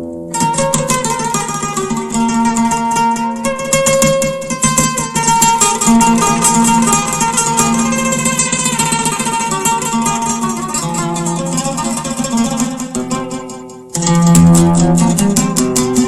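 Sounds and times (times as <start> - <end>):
oud plucked with a pick: 0.0 - 16.0.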